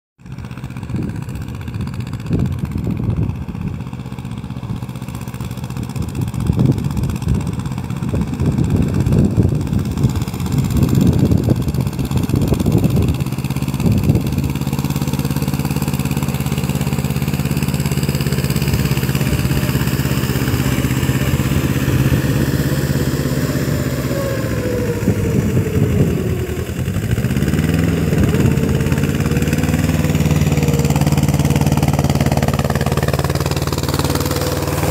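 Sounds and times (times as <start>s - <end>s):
tractor diesel engine running: 0.2s - 34.9s
wind rumbling on microphone: 0.7s - 34.9s.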